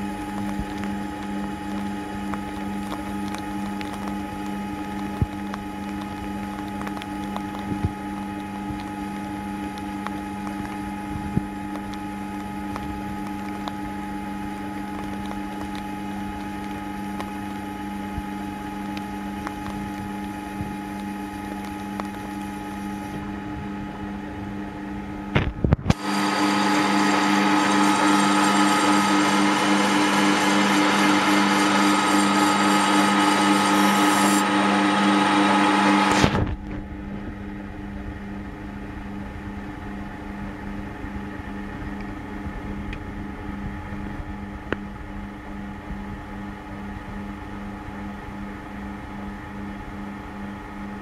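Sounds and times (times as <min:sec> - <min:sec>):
metal lathe hum and whine: 0:06.2 - 0:51.0.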